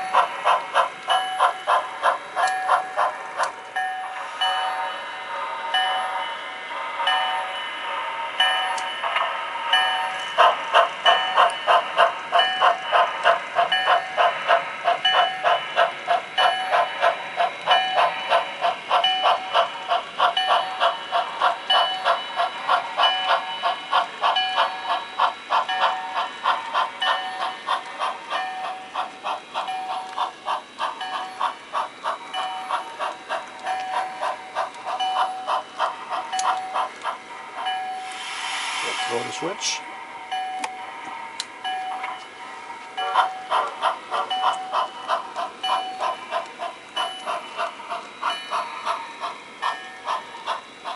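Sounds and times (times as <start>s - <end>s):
model steam locomotive chuffing: 0.0s - 50.9s.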